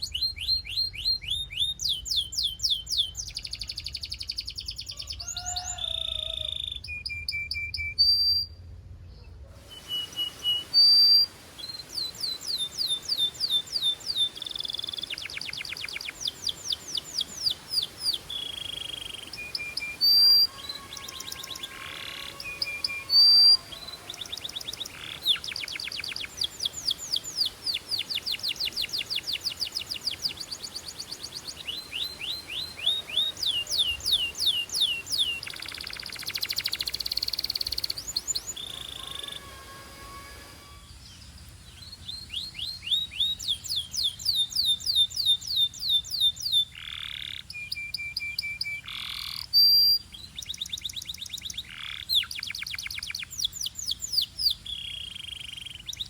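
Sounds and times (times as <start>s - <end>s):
canary singing trills: 9.6s - 56.0s.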